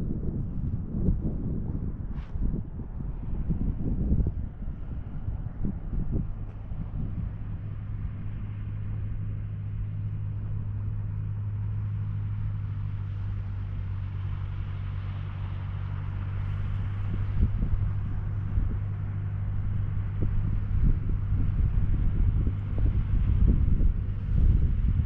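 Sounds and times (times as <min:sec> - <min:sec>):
boat engine running: 0:00.0 - 0:25.0
wind rumble: 0:00.0 - 0:25.0.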